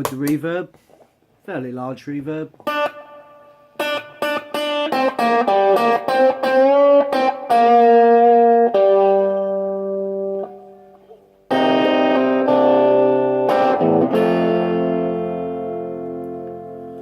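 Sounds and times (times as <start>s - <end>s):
electric guitar with reverb: 2.6s - 17.0s.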